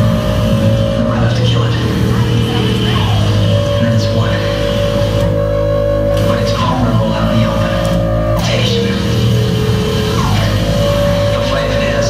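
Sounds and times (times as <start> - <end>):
noise music drone: 0.0 - 12.0.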